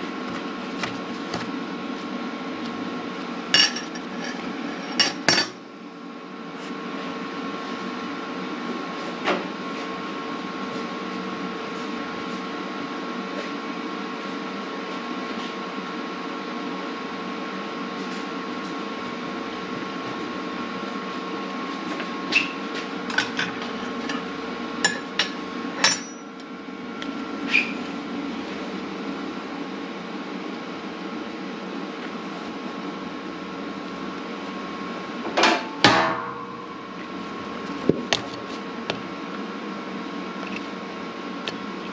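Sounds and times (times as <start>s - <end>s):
mechanical hum of shop equipment: 0.0s - 41.9s.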